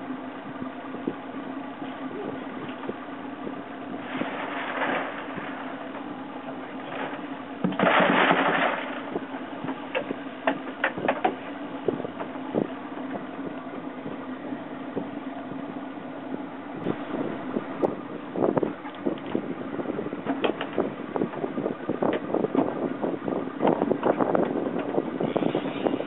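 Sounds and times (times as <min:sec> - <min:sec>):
boat engine running: 0:00.0 - 0:26.0
water noise: 0:00.0 - 0:26.0
wind: 0:00.0 - 0:26.0.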